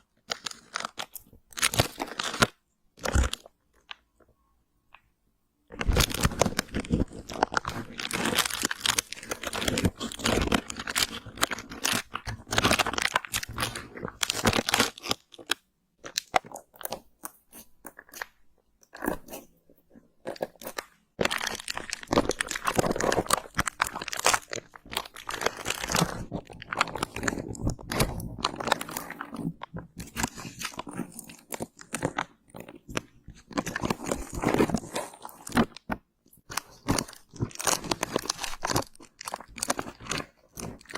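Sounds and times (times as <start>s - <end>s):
close crunching and crackling: 0.0s - 4.0s, 5.7s - 40.9s.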